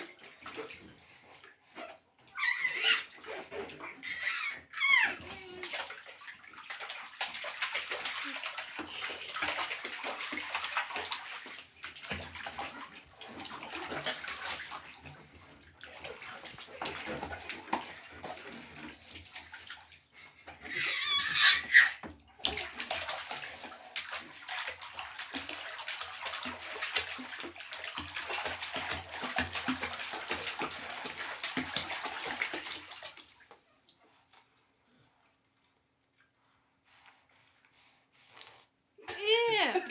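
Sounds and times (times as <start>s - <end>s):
water splashing in a bathtub: 0.0s - 39.9s.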